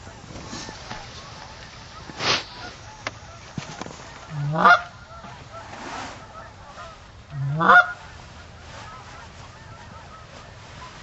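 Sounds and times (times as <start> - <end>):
faint distant honking: 0.0 - 11.0
loud goose honks: 0.0 - 11.0.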